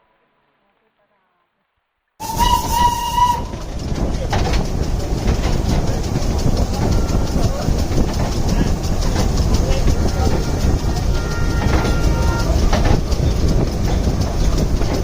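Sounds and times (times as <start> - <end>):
train running noise: 2.2 - 15.0.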